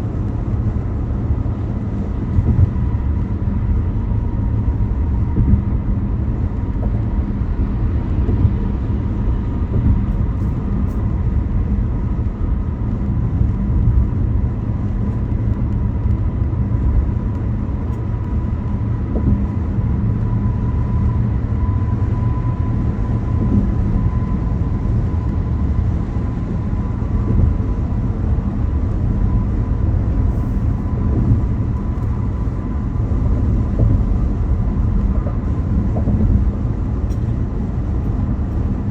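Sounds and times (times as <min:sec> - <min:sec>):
car tyres and engine rumbling: 0:00.0 - 0:38.9
faint steady whine: 0:00.0 - 0:38.9.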